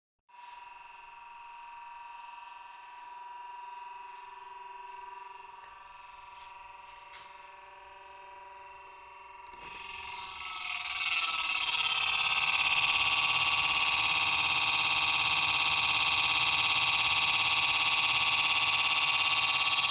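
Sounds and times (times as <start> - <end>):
refrigerator buzzing whine: 0.5 - 19.9.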